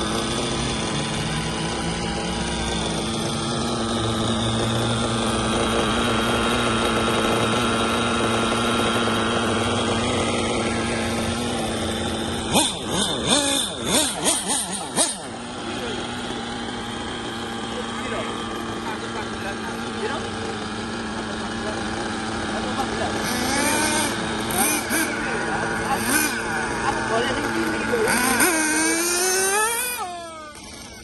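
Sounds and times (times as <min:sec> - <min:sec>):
sharp engine revs: 0:00.0 - 0:31.0
small nitro engines running: 0:00.0 - 0:31.0.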